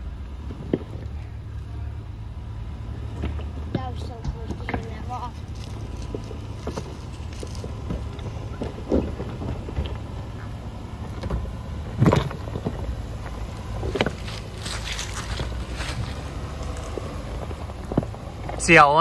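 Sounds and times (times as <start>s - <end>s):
pickup engine running low: 0.0s - 19.0s
tyres crunching on loose rock: 3.2s - 18.8s.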